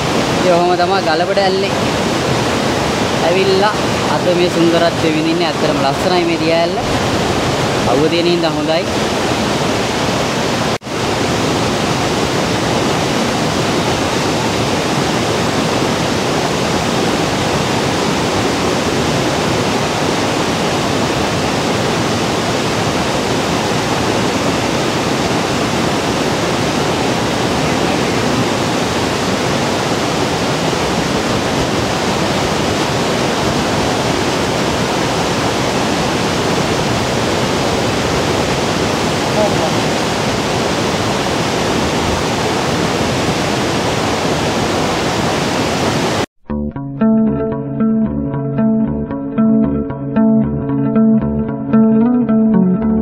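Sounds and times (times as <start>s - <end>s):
waterfall rushing: 0.0s - 46.3s.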